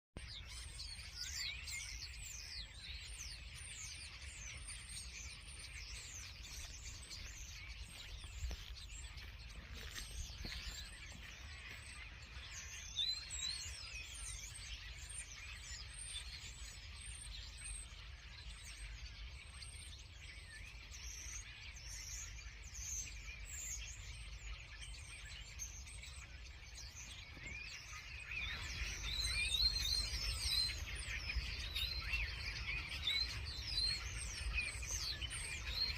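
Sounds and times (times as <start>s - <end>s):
small birds chirping: 0.2s - 35.9s.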